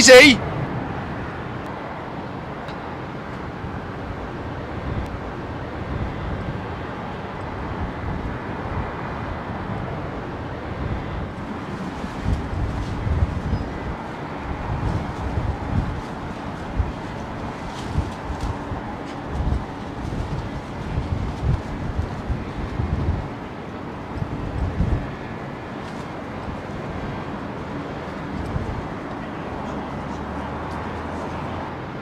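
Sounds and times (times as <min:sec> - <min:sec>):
jet engines rushing: 0:00.0 - 0:32.0
wind buffeting microphone: 0:00.1 - 0:32.0.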